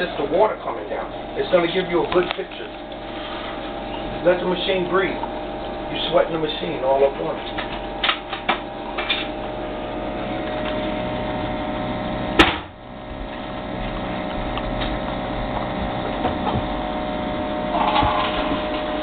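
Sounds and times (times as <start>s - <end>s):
coffee maker pump humming: 0.0s - 19.0s.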